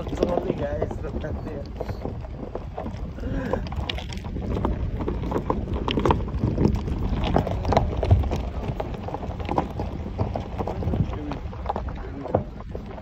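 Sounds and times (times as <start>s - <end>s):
knocks and rattles: 0.0s - 13.0s
vehicle rumbling over gravel: 0.0s - 13.0s.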